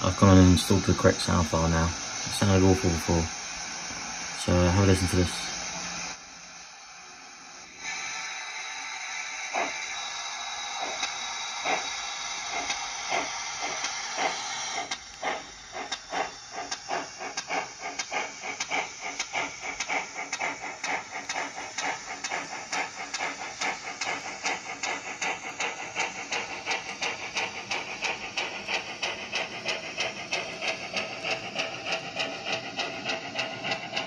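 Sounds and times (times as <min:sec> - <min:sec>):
steam hiss: 0:00.0 - 0:34.0
steam locomotive chuffs: 0:00.0 - 0:34.0.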